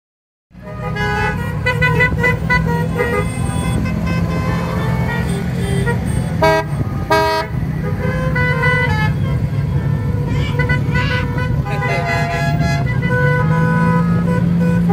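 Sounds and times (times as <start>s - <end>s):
low rumble of car engines: 0.5s - 14.9s
car horns tooting: 0.6s - 14.9s.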